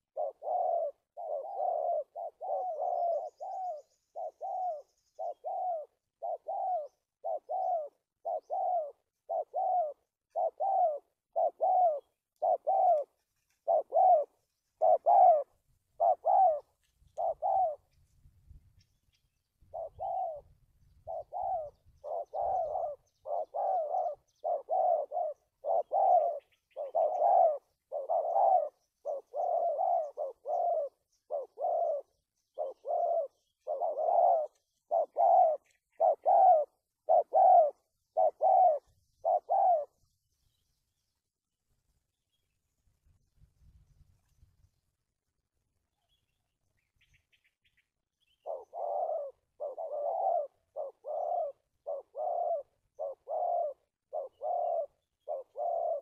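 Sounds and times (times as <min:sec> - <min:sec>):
dove cooing: 0:00.0 - 0:40.1, 0:48.2 - 0:56.0.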